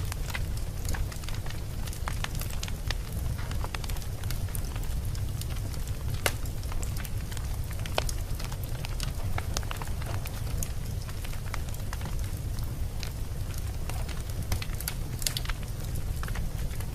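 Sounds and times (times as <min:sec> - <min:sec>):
fire flames rumbling: 0:00.0 - 0:16.9
fire popping and snapping: 0:00.0 - 0:16.9.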